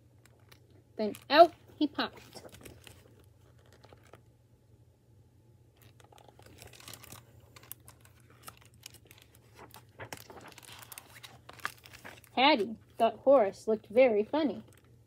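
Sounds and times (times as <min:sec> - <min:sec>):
plastic book cover crinkling: 0:00.0 - 0:04.3, 0:05.7 - 0:15.0
low steady hum: 0:00.0 - 0:15.0.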